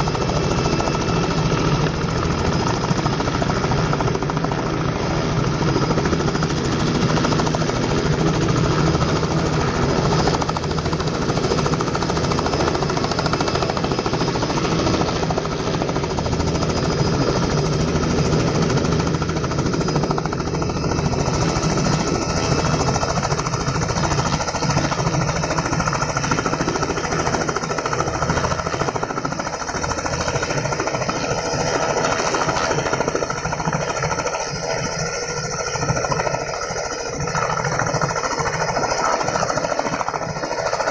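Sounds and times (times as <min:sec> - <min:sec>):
helicopter piston engine running: 0:00.0 - 0:40.9
helicopter rotor chop: 0:00.0 - 0:40.9.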